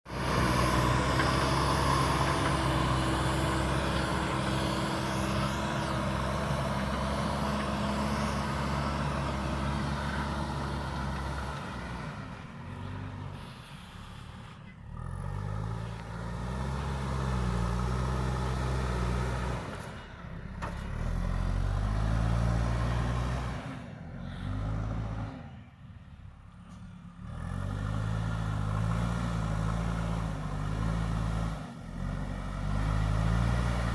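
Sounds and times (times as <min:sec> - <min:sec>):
diesel engine running under load: 0:00.1 - 0:33.9.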